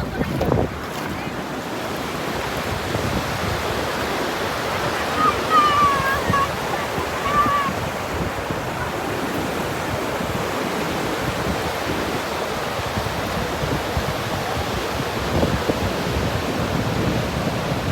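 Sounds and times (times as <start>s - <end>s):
waves breaking on a beach: 0.0s - 17.9s.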